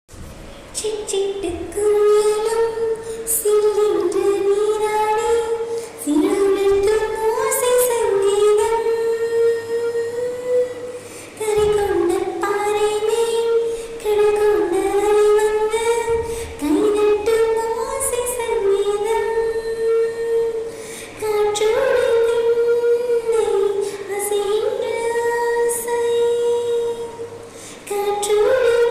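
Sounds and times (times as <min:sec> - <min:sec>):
music: 0:00.1 - 0:28.9
high voice singing held notes: 0:00.5 - 0:28.9.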